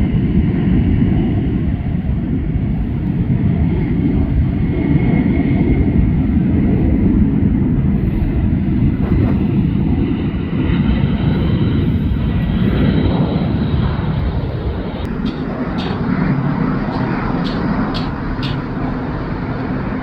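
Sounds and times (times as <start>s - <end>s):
jet engines at takeoff thrust: 0.0s - 20.0s.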